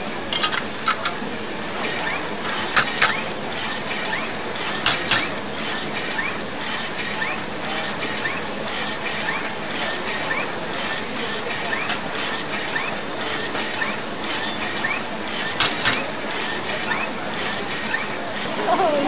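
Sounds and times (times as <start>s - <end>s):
sharp mechanical clicks: 0.2s - 18.8s.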